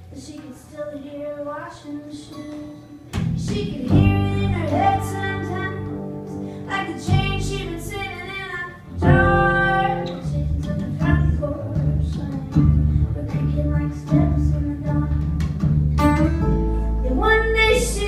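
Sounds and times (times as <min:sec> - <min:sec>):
woman singing: 0:00.1 - 0:02.8, 0:03.4 - 0:15.3, 0:17.0 - 0:18.0
strummed acoustic guitar: 0:02.2 - 0:18.0
plucked upright double bass: 0:03.2 - 0:18.0.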